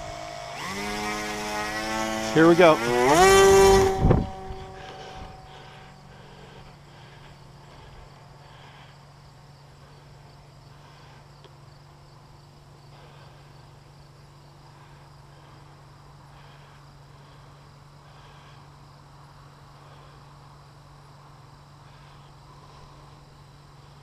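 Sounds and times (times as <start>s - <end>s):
insects chirping: 0.0s - 24.0s
low hum: 0.0s - 24.0s.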